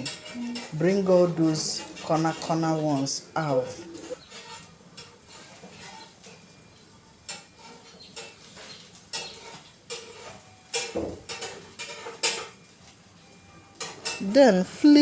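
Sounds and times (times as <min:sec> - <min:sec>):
metal spoon scraping frying pan: 0:00.0 - 0:12.8, 0:13.8 - 0:15.0.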